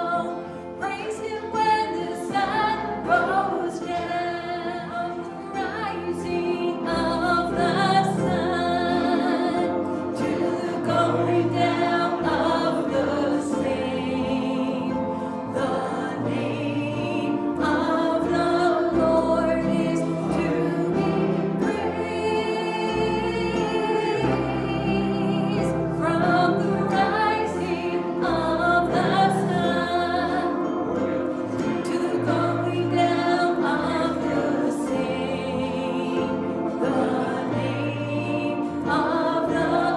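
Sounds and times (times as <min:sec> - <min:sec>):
choir singing: 0:00.0 - 0:39.9
instrumental accompaniment: 0:00.0 - 0:39.9.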